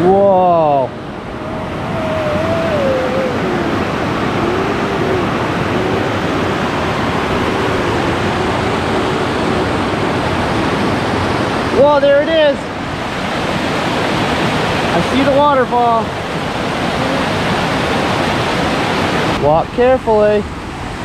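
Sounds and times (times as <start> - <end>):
waterfall rushing: 0.0 - 19.6.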